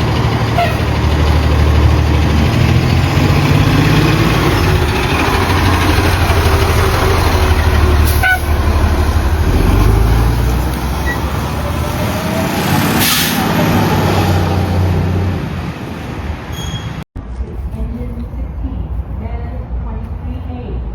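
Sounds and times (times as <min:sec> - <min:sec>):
diesel engine low rumble: 0:00.0 - 0:20.9.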